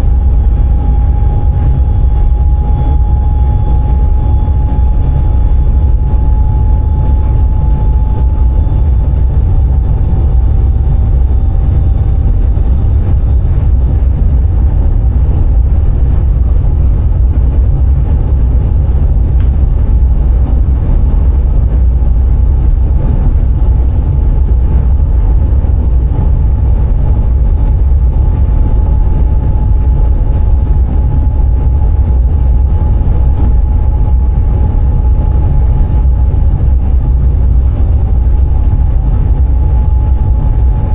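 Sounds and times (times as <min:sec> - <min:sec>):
thin steady whine: 0:00.0 - 0:40.9
train wheels rumbling on rail: 0:00.0 - 0:40.9.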